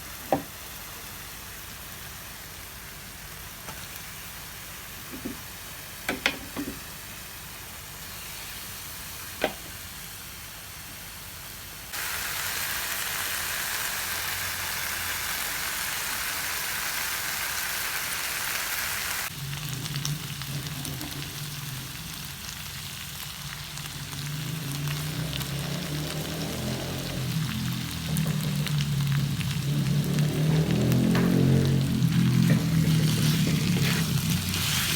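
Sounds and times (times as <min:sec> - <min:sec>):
food frying in hot oil: 0:00.0 - 0:34.9.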